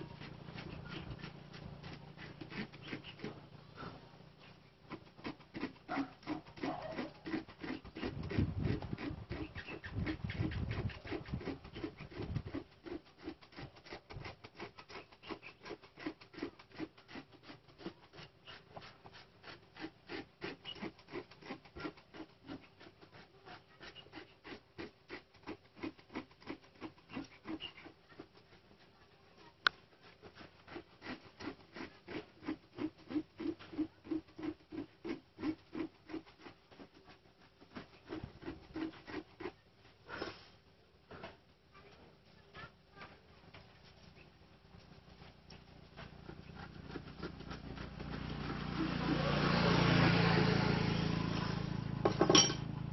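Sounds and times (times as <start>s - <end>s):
hand rasp scuffing rubber: 0.0s - 41.4s, 44.8s - 52.4s.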